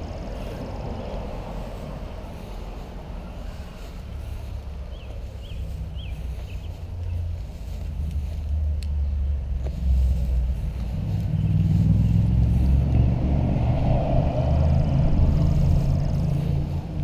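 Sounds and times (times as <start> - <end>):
car passing: 0.0 - 17.0
steady low rumble: 0.0 - 17.0.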